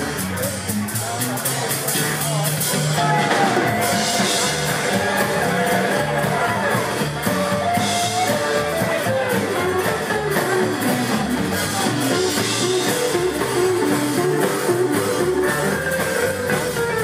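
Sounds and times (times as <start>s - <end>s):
drum kit with cymbals: 0.0s - 17.0s
upright double bass: 0.0s - 17.0s
electric guitar lead: 2.6s - 17.0s.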